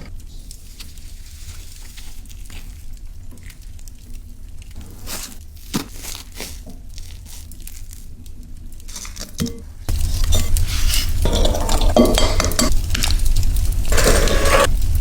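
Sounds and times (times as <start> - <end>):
crinkling and tearing: 0.0 - 11.9, 12.7 - 15.0.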